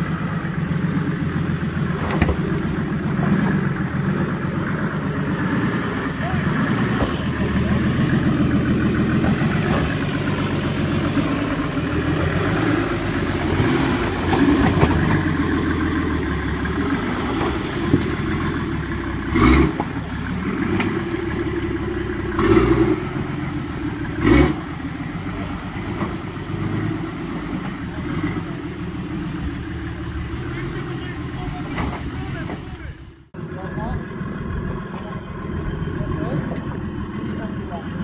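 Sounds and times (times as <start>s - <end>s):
buggy engine revving: 0.0s - 38.0s.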